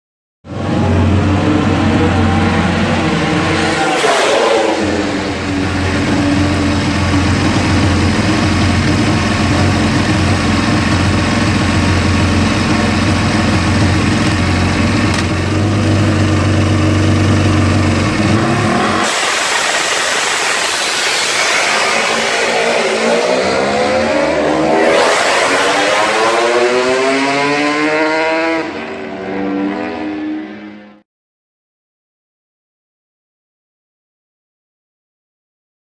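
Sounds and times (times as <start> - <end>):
motorcycle accelerating and shifting: 0.4 - 31.0
motorcycle engine revving: 0.5 - 31.0.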